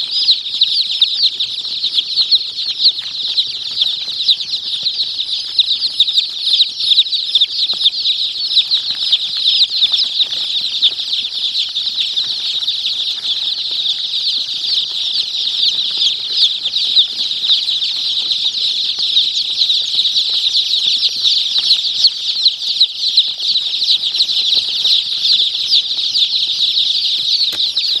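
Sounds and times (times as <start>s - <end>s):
baby chicks peeping: 0.0s - 28.0s.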